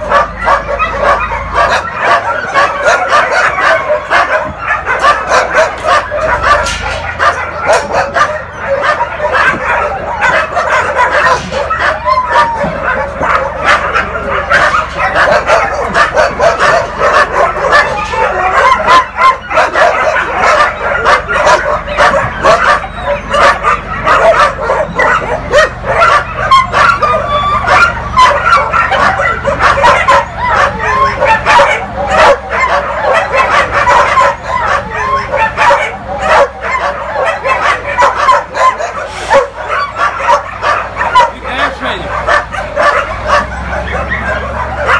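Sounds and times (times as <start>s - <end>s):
many dogs barking and yelping: 0.0s - 44.9s.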